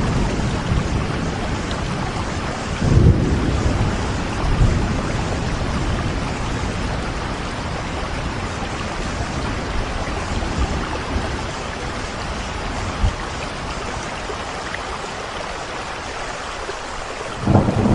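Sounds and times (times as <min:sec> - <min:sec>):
low rumble of thunder: 0:00.0 - 0:14.1, 0:17.3 - 0:17.9
steady rain falling: 0:00.0 - 0:17.9.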